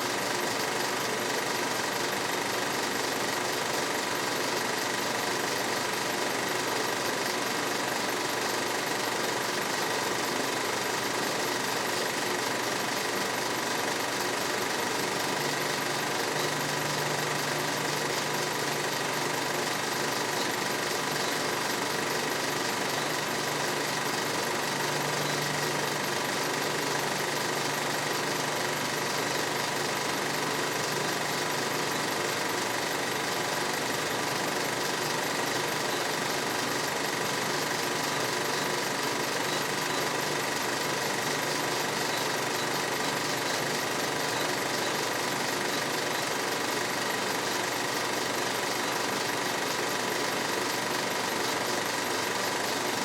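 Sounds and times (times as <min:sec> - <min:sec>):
film projector clattering: 0:00.0 - 0:53.0.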